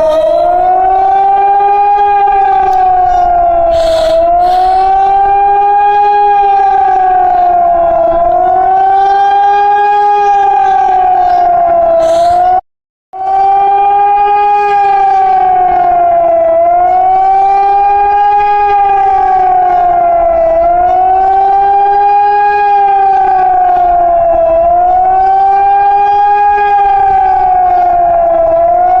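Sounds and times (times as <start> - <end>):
emergency siren wailing: 0.0 - 29.0.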